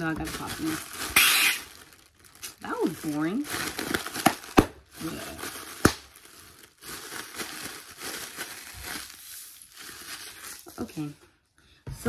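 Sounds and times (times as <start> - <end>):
plastic air cushion crinkling: 0.0 - 11.1.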